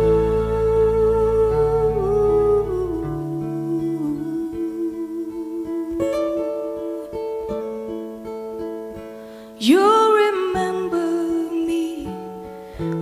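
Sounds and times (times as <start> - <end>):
acoustic guitar picking notes: 0.0 - 13.0.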